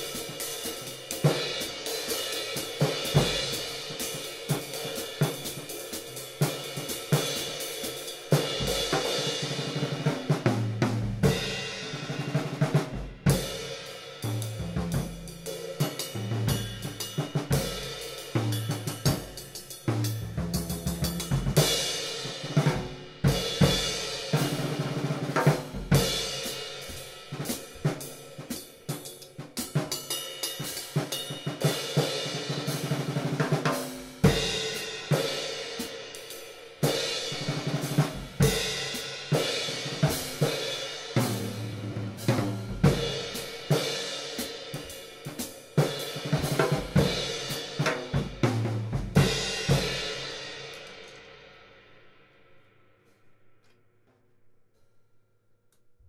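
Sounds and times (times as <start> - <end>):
drum kit playing: 0.0 - 51.5.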